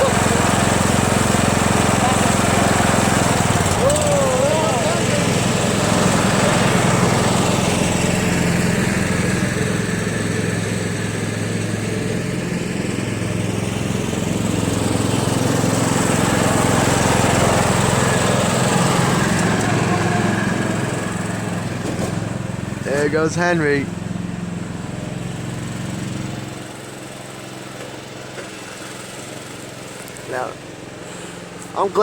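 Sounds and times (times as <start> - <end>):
lawn tractor engine running: 0.0 - 32.0.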